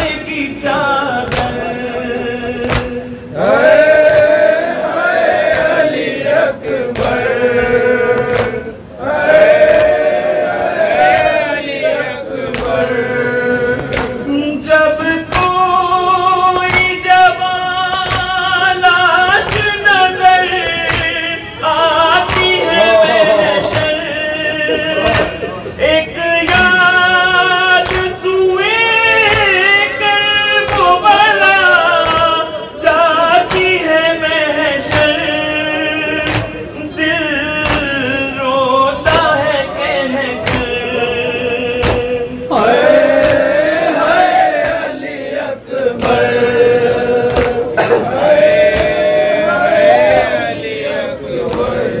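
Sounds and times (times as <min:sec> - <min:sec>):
man singing a lament into microphone: 0:00.0 - 0:52.0
rhythmic chest slaps: 0:00.0 - 0:52.0.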